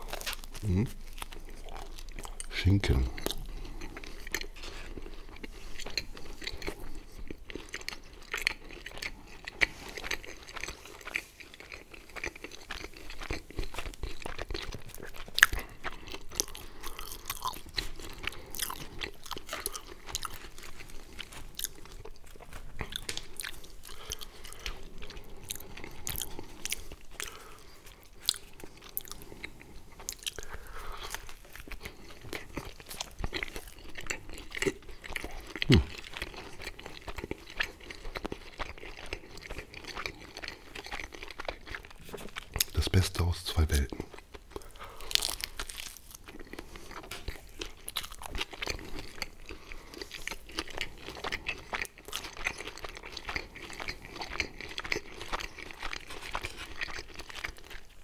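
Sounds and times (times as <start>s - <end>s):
pizza crust crunching: 0.0s - 58.0s
wet chewing mouth sounds: 0.0s - 58.0s.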